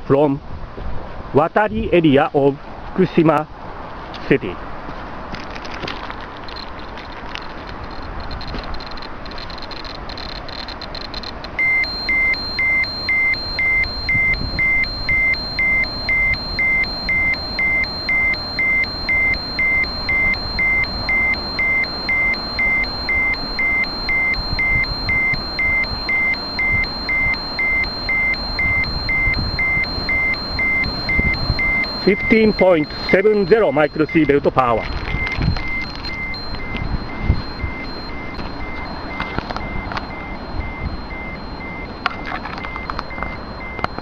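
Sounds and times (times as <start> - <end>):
dosimeter alarm beeping: 7.8 - 44.0.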